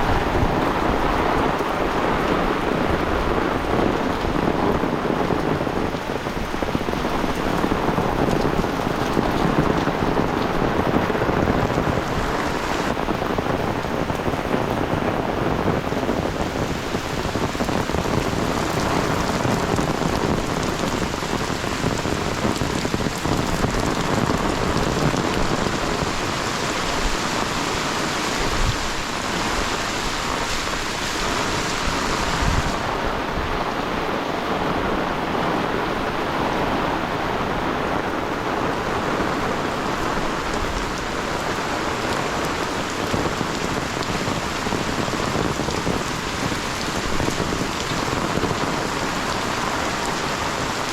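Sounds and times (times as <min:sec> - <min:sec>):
heavy rain splattering: 0:00.0 - 0:50.9.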